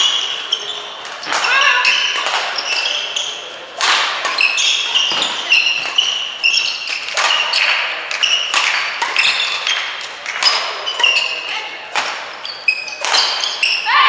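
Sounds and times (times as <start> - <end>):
rackets striking shuttlecock: 0.0 - 13.9
shoes squeaking on court floor: 0.0 - 14.0.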